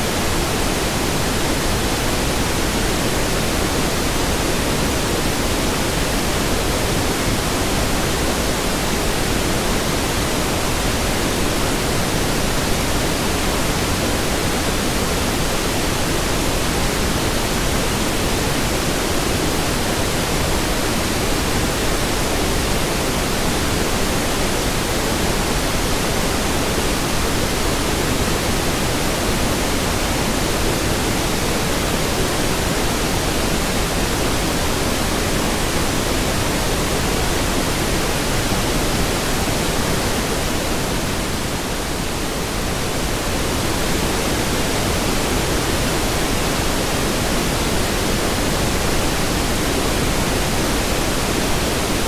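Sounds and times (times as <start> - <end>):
steady pink noise hiss: 0.0 - 52.0.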